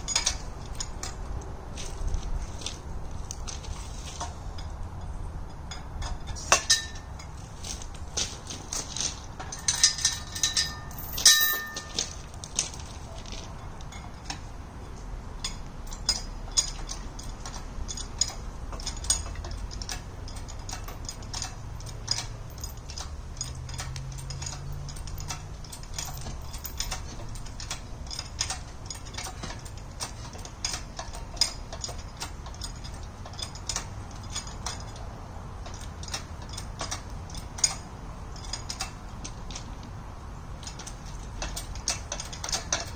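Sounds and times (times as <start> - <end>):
chain clinking and clanking: 0.0 - 42.9.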